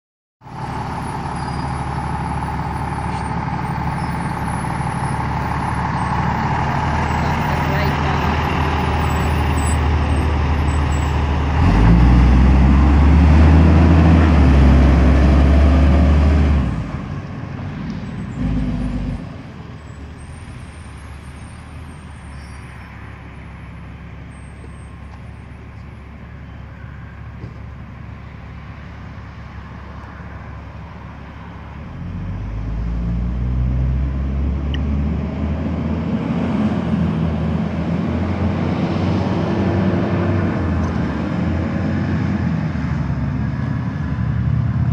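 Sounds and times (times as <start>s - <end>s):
diesel engine revving: 0.4s - 25.2s, 27.2s - 44.9s.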